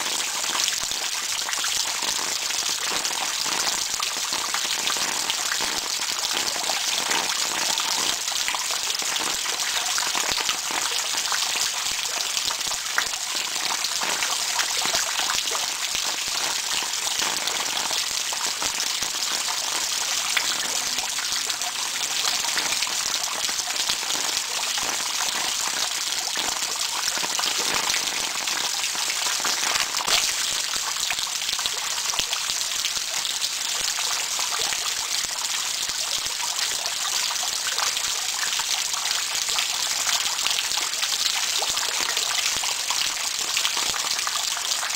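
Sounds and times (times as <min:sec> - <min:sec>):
steady rain on ground: 0:00.0 - 0:44.9.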